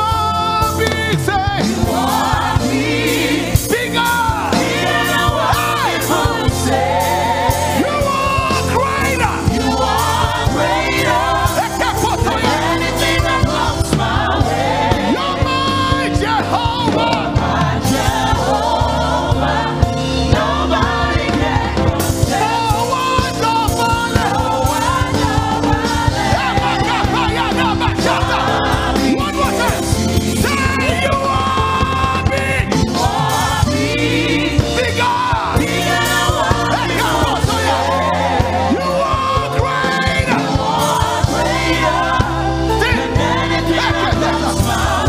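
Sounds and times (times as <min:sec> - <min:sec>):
band playing: 0:00.0 - 0:45.0
group singing together: 0:00.0 - 0:45.0.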